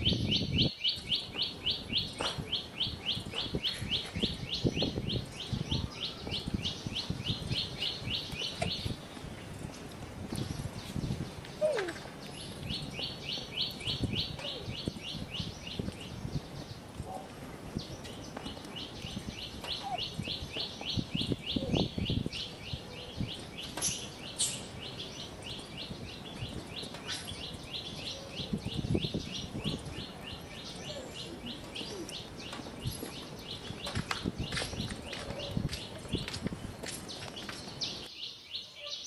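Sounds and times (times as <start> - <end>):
bird chirping: 0.0 - 39.0.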